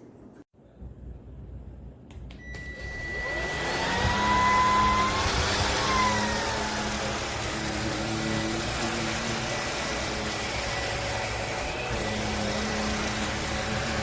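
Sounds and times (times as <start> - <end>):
motor whine: 2.5 - 14.0.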